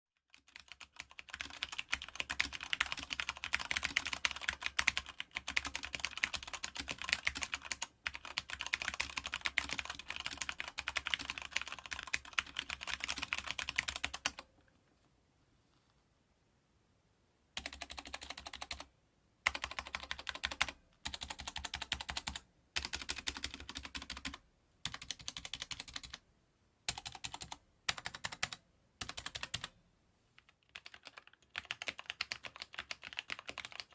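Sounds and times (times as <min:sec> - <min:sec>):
mechanical keyboard typing: 0:00.3 - 0:14.5, 0:17.6 - 0:26.2, 0:26.9 - 0:29.7, 0:30.4 - 0:33.9.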